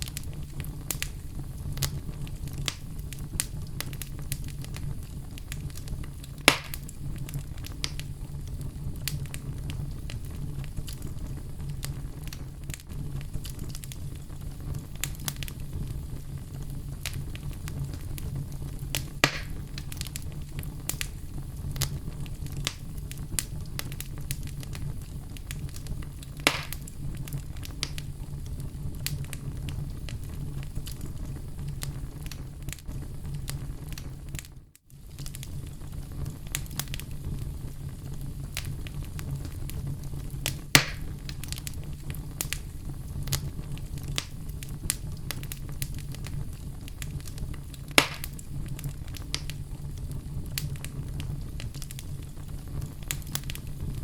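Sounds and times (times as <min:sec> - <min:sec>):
fire crackling and popping: 0:00.0 - 0:54.0
logs burning in fireplace: 0:00.0 - 0:54.0.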